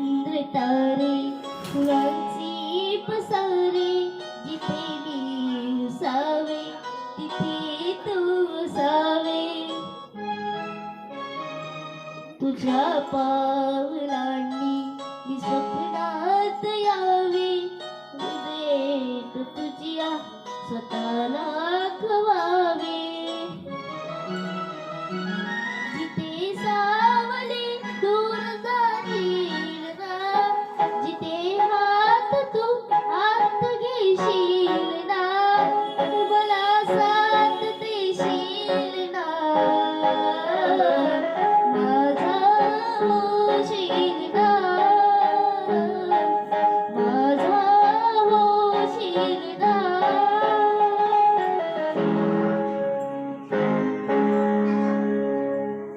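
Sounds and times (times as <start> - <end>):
girl singing: 0.0 - 10.0, 12.4 - 23.7, 25.9 - 51.7
sustained keyboard accompaniment: 0.0 - 55.9.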